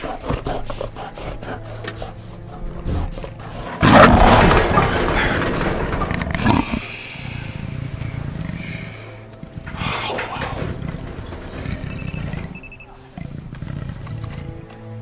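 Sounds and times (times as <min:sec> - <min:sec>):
dinosaur growling: 0:00.0 - 0:14.6.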